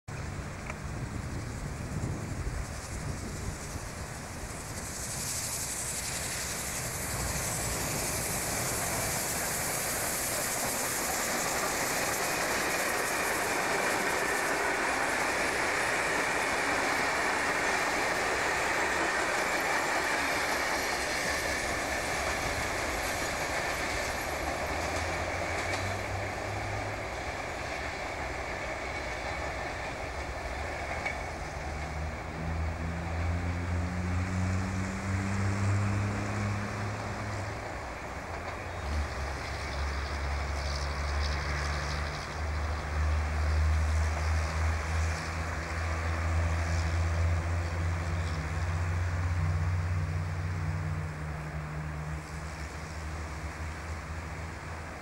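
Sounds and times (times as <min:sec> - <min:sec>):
train wheels and rail clatter: 0:00.1 - 0:55.0.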